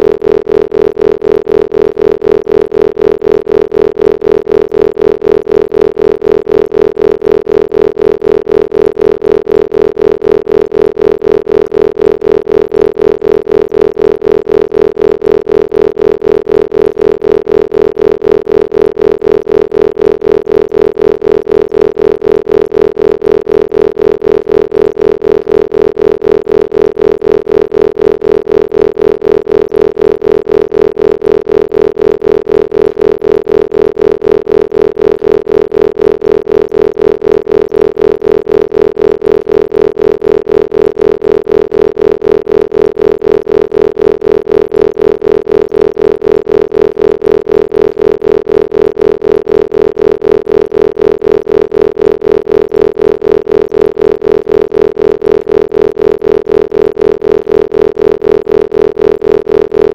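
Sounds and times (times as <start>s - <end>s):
pulsing synthesized tone: 5.5s - 59.9s.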